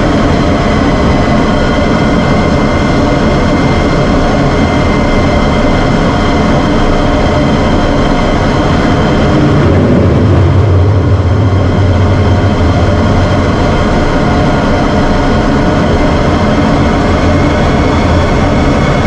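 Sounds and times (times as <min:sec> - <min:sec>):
jet engine running: 0:00.0 - 0:19.0.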